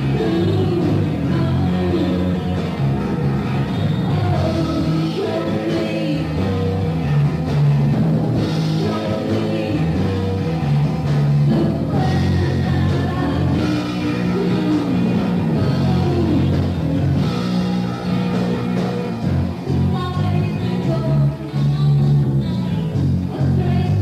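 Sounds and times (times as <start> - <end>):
rock music with guitar and drums: 0.0 - 24.0.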